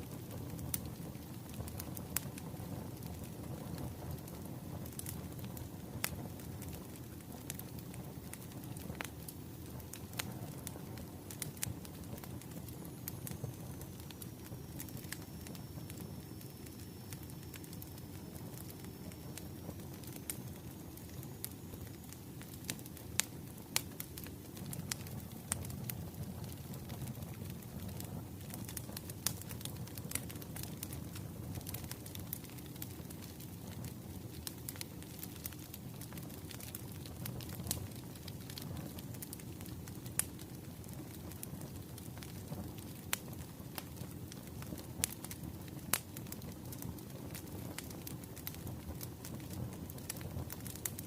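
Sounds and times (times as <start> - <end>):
low rumble of burning logs: 0.0 - 51.0
wood fire crackling and popping: 0.0 - 51.0.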